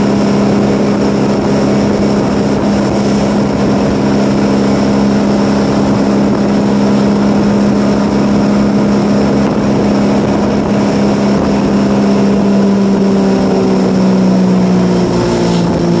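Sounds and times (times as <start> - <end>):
boat engine running: 0.0 - 16.0
rushing water: 0.0 - 16.0
wind: 0.0 - 16.0.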